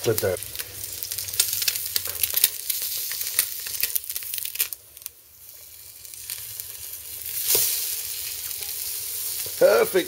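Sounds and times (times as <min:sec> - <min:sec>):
bread sizzling in a pan: 0:00.0 - 0:10.0.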